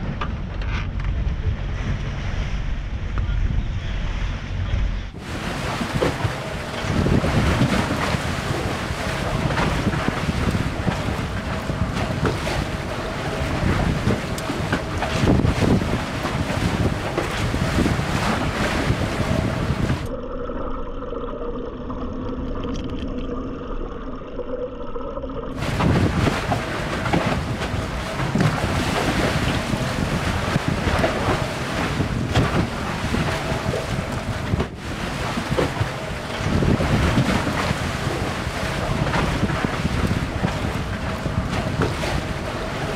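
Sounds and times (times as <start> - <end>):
water splashing along hull: 0.0 - 20.1, 25.5 - 42.9
wind buffeting microphone: 0.0 - 20.1, 25.6 - 42.9.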